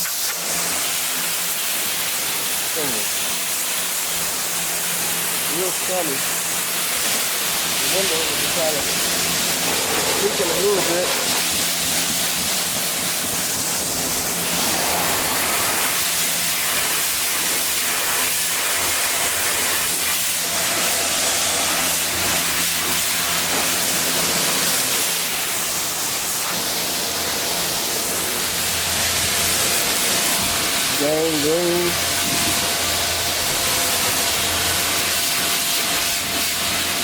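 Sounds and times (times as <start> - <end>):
water spray hissing on metal: 0.0 - 37.0.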